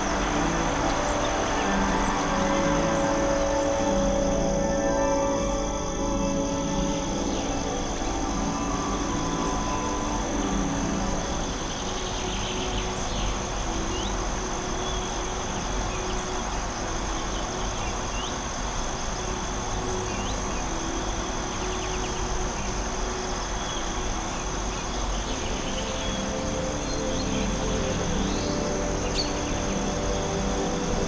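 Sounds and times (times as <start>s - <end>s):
high insect trill: 0.0s - 31.0s
steady rushing background: 0.0s - 31.0s.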